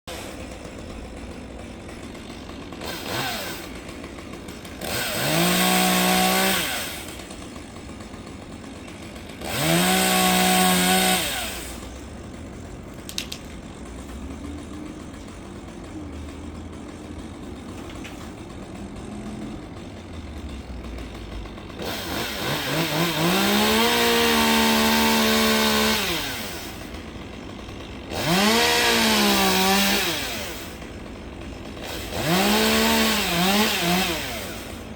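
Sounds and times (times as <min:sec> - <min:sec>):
chainsaw idling and revving: 0:00.1 - 0:34.9.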